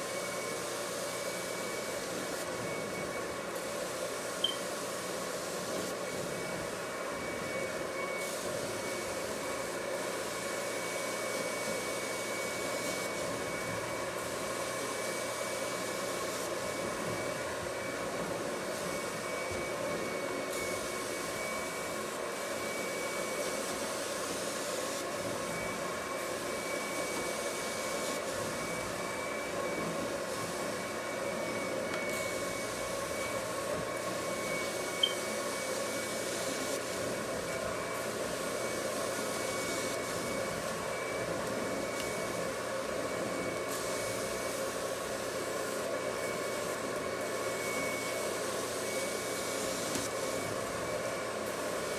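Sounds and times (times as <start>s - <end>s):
vacuum rushing whine: 0.0s - 51.9s.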